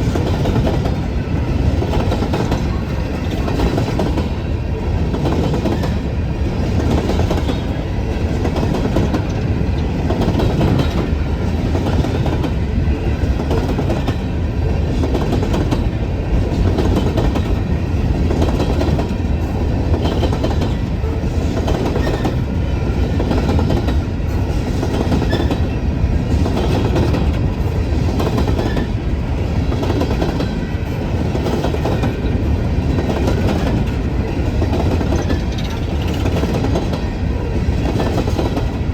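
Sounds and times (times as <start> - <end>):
wheels clacking over rail joints: 0.0 - 38.8
train wheels rumbling on rail: 0.0 - 38.9.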